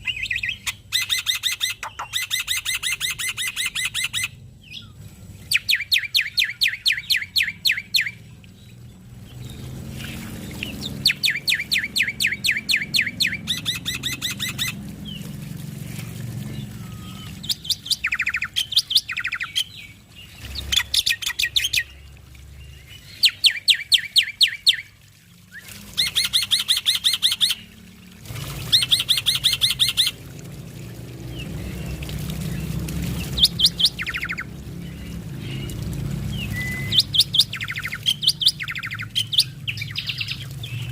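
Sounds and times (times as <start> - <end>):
bird chattering song: 0.0 - 8.3, 9.2 - 15.3, 16.4 - 22.0, 22.6 - 24.9, 25.6 - 27.7, 28.7 - 30.2, 31.3 - 40.9
low background hum: 0.0 - 40.9.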